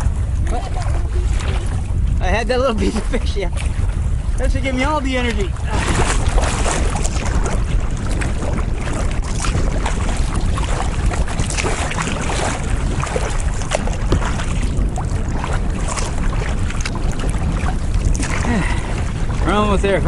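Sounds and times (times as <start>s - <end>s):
water splashing against kayak: 0.0s - 20.0s
wind rumbling on microphone: 0.0s - 20.0s.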